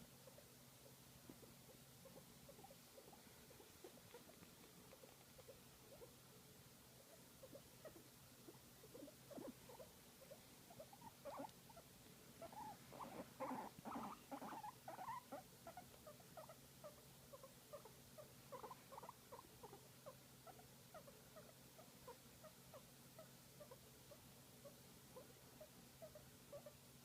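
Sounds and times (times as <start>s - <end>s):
guinea pig squeaky chirps: 0.2s - 6.3s, 7.0s - 26.9s.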